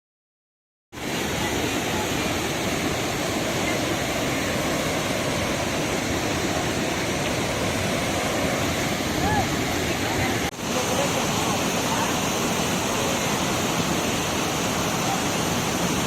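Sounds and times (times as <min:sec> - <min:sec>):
waterfall rushing: 0:01.0 - 0:16.0.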